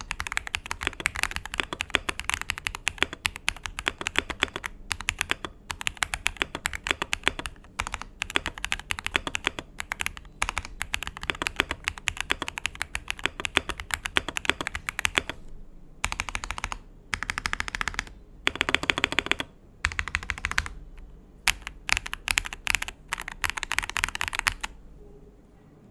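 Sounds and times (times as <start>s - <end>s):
mechanical keyboard typing: 0.0s - 15.4s, 16.0s - 24.8s.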